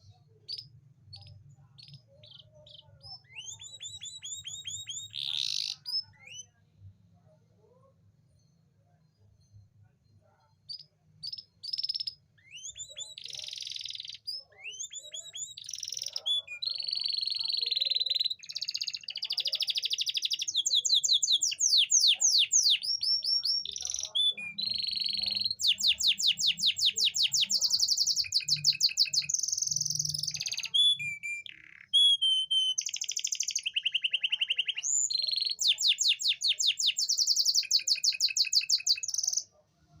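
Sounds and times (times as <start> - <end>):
canary singing trills: 0.0 - 6.6, 7.8 - 39.6.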